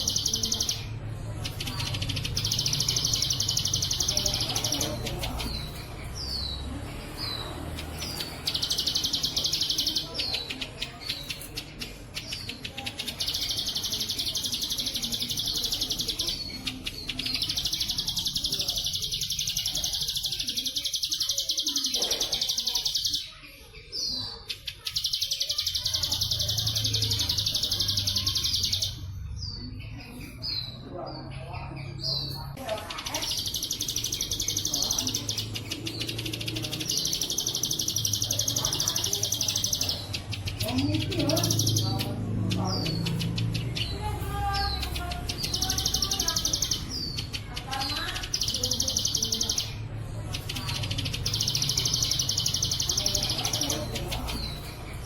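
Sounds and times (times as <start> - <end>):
bird chirps: 0.0 - 55.0.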